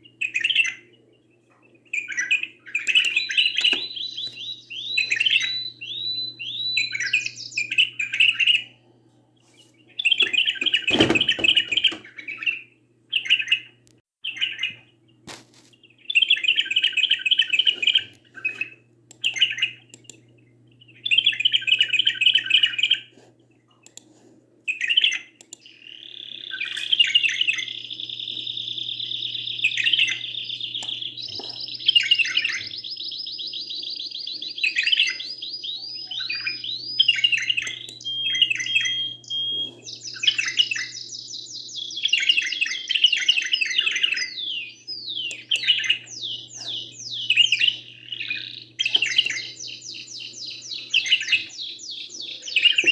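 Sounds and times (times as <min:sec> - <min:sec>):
canary singing trills: 0:00.0 - 0:15.2, 0:15.8 - 0:24.0, 0:24.7 - 0:52.9
faint low hum: 0:00.0 - 0:52.9.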